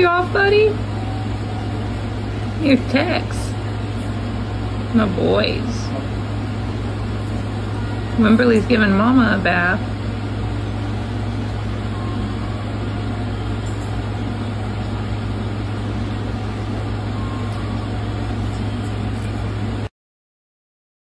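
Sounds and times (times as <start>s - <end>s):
steady low machinery hum: 0.0s - 19.9s.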